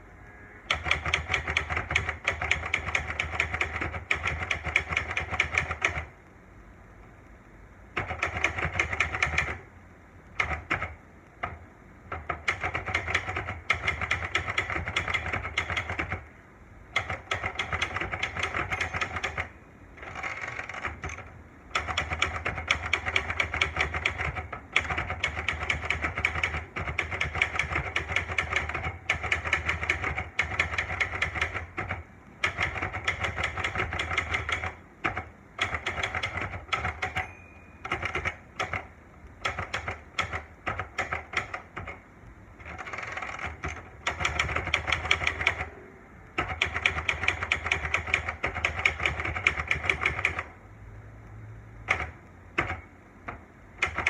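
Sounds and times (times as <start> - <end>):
typebars thudding on platen: 0.7 - 6.1, 10.4 - 16.3, 17.0 - 37.2, 37.8 - 42.0, 42.6 - 45.7, 46.4 - 50.5, 51.9 - 54.0
typewriter key strikes: 0.7 - 6.1, 8.0 - 9.6, 10.4 - 16.2, 16.9 - 42.0, 42.6 - 45.7, 46.4 - 50.6, 51.9 - 54.0.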